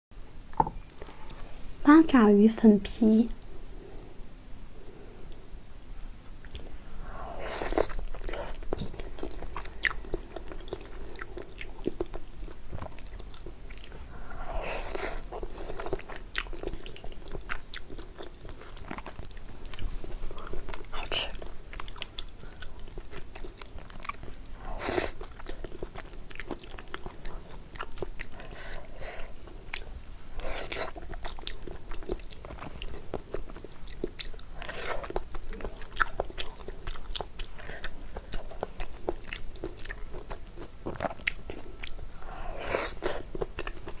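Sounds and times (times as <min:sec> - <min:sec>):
close chewing and biting: 0:07.6 - 0:44.0.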